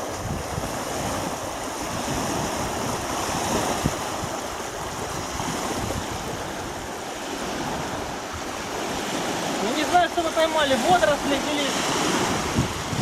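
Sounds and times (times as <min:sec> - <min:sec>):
waves washing against shore: 0:00.0 - 0:13.0
wind buffeting microphone: 0:00.0 - 0:13.0.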